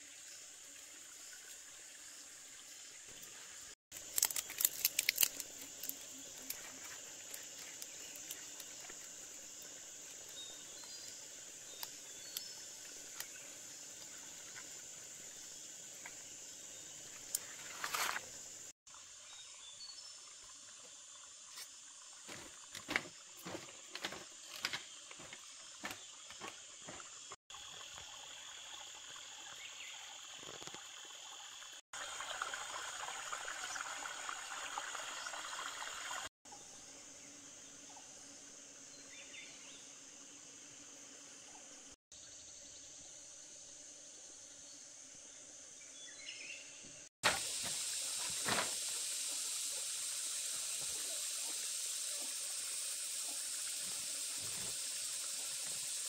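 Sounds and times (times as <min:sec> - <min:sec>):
insects chirring: 0:00.2 - 0:31.8, 0:35.1 - 0:56.0.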